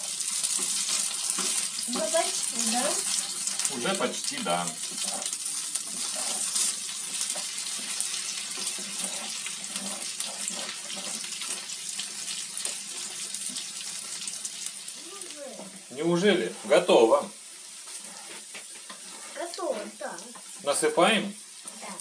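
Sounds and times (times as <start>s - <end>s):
wooden spatula scraping a pan: 0.0s - 20.7s
potatoes sizzling in a frying pan: 0.0s - 22.0s.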